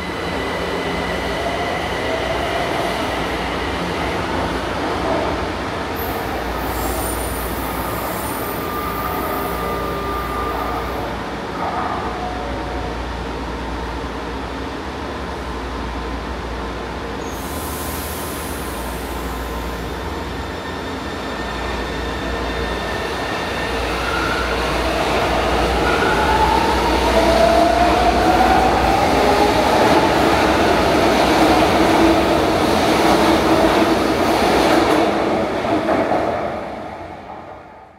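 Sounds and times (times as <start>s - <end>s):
subway train running past: 0.0s - 37.9s.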